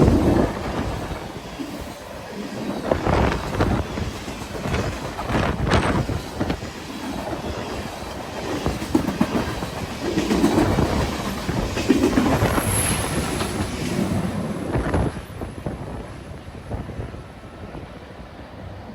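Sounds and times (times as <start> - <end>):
train wheels clattering over rails: 0.0 - 16.0.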